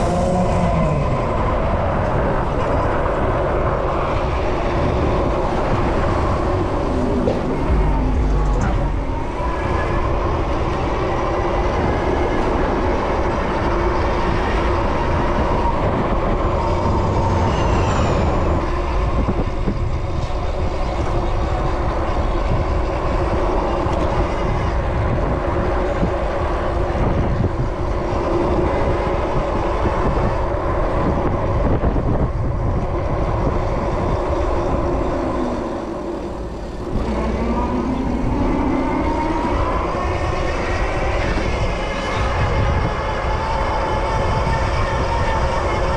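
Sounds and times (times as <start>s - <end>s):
city traffic noise: 0.0s - 45.9s
rising whine: 0.0s - 45.9s.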